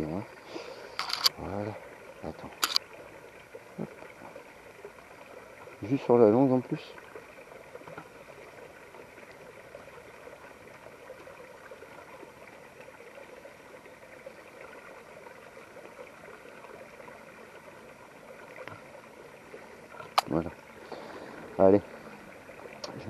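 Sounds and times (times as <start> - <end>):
faint outdoor background hiss: 0.0 - 23.0.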